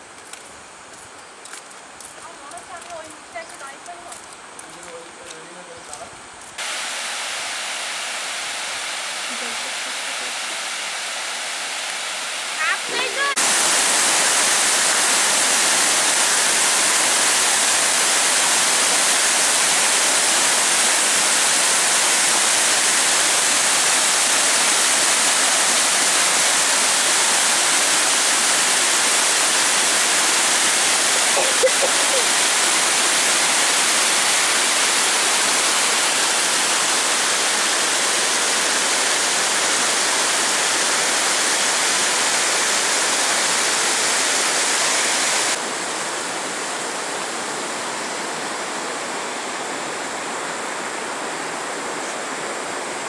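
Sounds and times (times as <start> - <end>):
water rushing down a spillway: 1.8 - 53.0.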